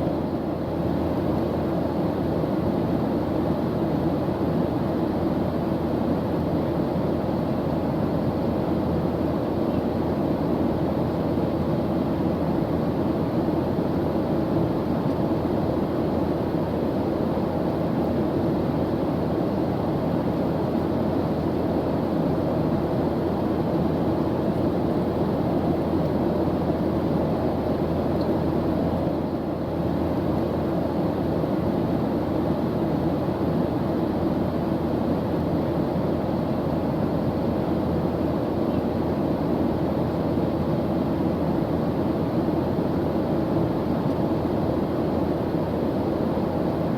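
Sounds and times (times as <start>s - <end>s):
airplane engine drone: 0.0s - 46.9s.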